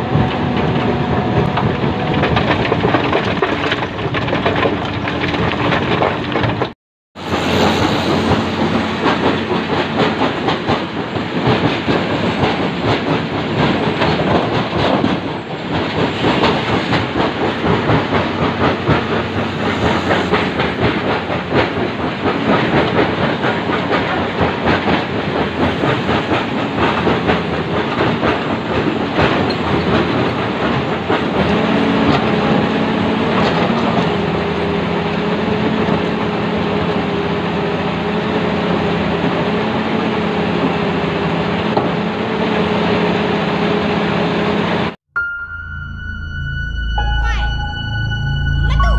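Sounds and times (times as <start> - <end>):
crawler tracks clanking: 0.0 - 44.1.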